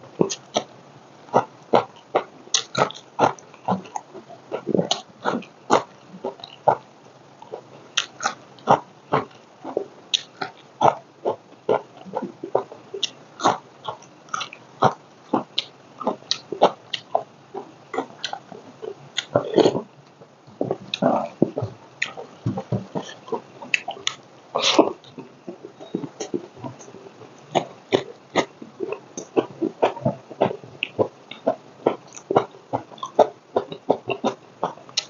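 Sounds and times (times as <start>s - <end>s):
wet chewing and lip smacking: 1.3s - 6.8s, 7.4s - 35.0s.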